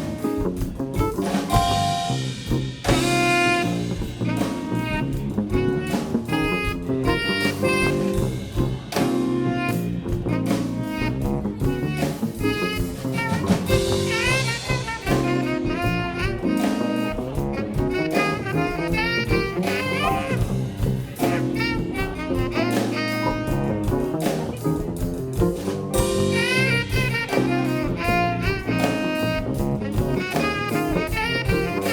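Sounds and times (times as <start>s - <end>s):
live jazz band playing: 0.0s - 31.9s.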